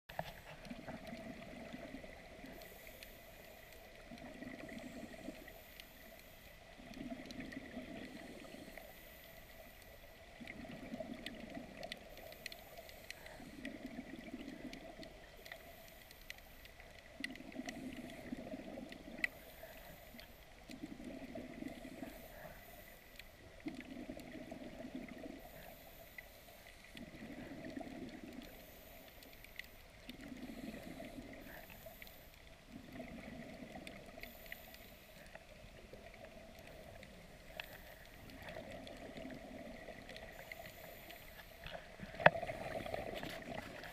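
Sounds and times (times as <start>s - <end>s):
exhaled bubbles gurgling: 0.1s - 43.9s
faint clicks: 0.1s - 43.9s.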